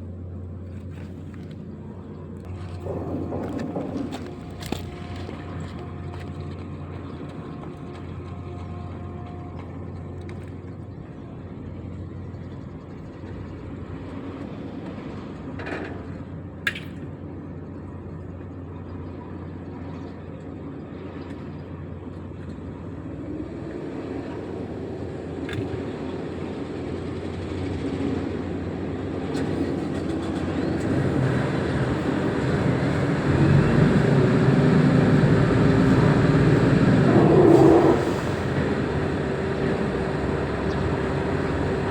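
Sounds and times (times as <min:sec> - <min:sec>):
heavy diesel engine running: 0:01.2 - 0:16.5, 0:22.0 - 0:41.9.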